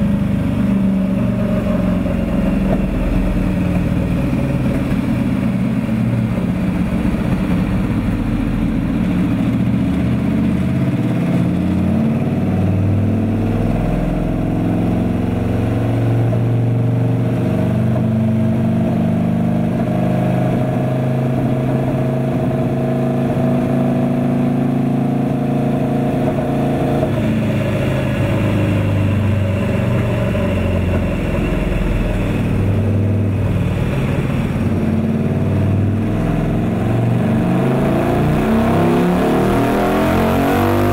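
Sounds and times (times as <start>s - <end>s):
motorcycle engine under load: 0.0s - 40.9s.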